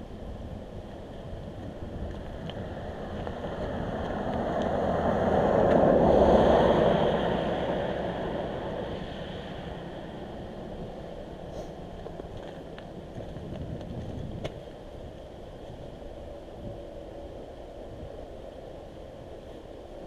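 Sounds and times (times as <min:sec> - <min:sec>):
road vehicle passing by: 0:00.6 - 0:17.6.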